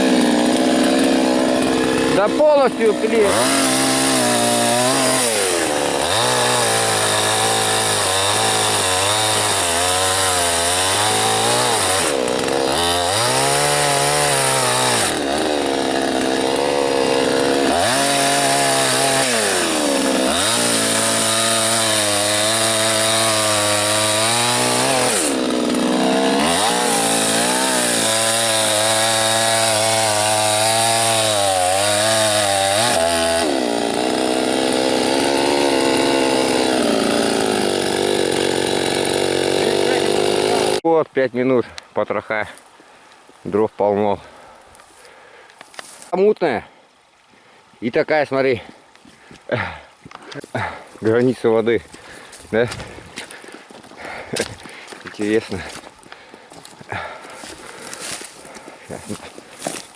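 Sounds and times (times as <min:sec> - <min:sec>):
chainsaw cutting wood: 0:00.0 - 0:40.9, 0:49.5 - 0:59.9.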